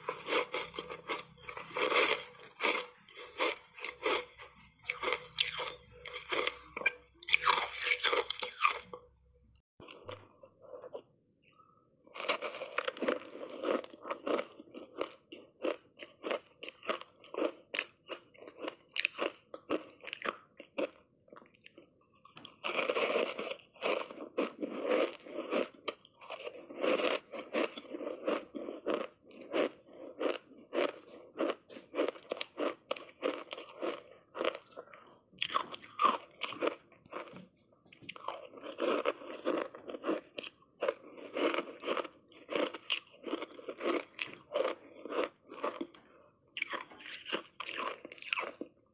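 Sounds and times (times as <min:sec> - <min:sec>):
ice crunching being chewed: 0:00.0 - 0:09.0, 0:09.8 - 0:48.8.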